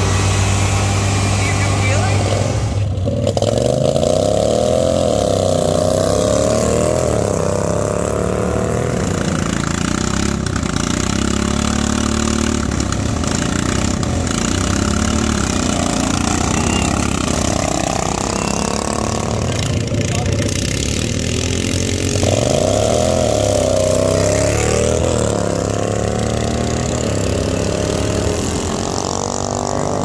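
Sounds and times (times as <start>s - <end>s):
lawn mower engines running hard: 0.0s - 30.0s.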